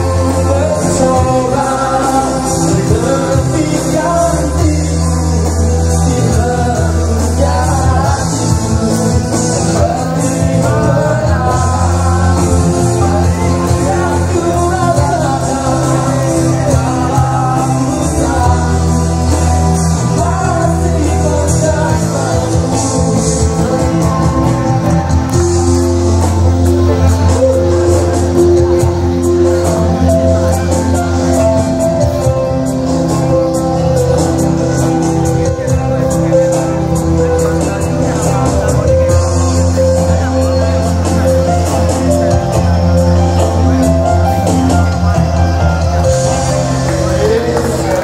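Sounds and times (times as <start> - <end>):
bass line: 0.0 - 48.0
drums: 0.0 - 48.0
electric guitar: 0.0 - 48.0
man singing into microphone: 0.0 - 48.0.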